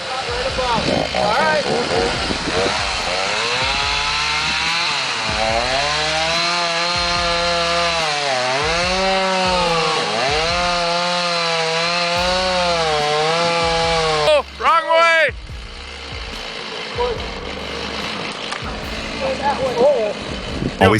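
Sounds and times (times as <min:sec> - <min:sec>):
chainsaw cutting wood: 0:00.0 - 0:20.8.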